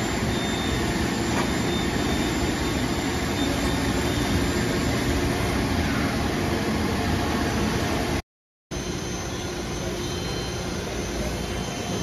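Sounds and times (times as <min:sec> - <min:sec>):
machinery humming and hissing: 0:00.0 - 0:12.0.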